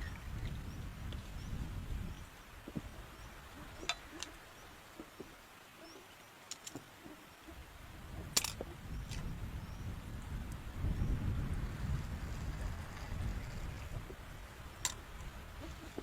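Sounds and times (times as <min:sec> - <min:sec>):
wind gusting against microphone: 0:00.0 - 0:05.4, 0:07.4 - 0:16.0.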